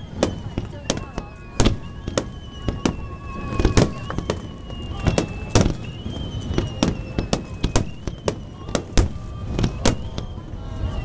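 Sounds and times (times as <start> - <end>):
high tone falling in pitch: 0.0 - 11.0.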